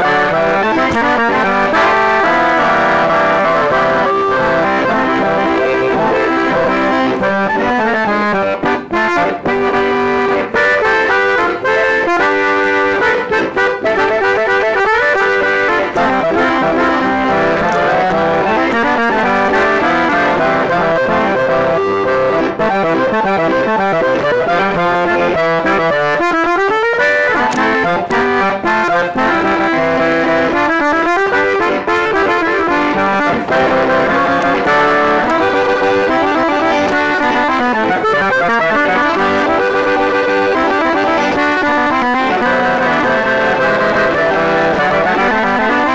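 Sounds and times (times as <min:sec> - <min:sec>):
button accordion playing: 0:00.0 - 0:45.9.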